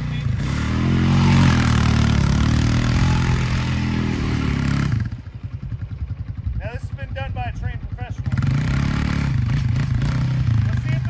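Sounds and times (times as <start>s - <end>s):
quad bike engine revving: 0.0s - 11.0s.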